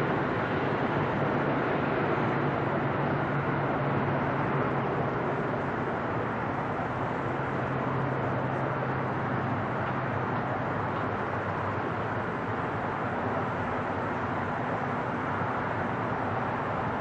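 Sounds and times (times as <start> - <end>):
jet engines rumbling overhead: 0.0 - 17.0.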